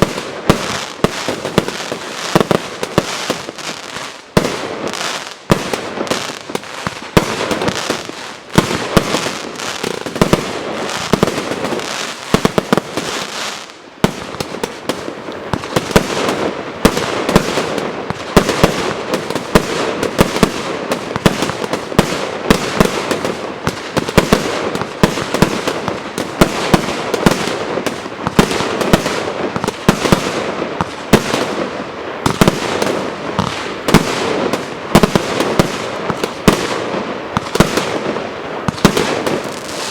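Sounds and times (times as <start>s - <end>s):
firework bangs: 0.0s - 39.9s
firework crackling hiss: 0.0s - 39.9s.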